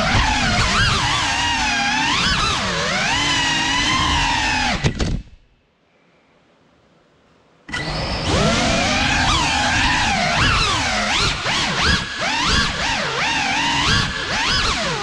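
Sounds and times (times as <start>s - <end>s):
drone motors whining: 0.0s - 5.1s, 7.7s - 15.0s.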